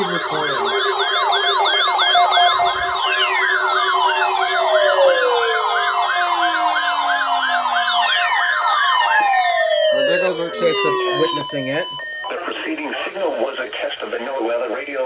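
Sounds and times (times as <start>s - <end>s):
siren wail falling in pitch: 0.0s - 12.8s
electronic siren yelping: 0.0s - 13.2s.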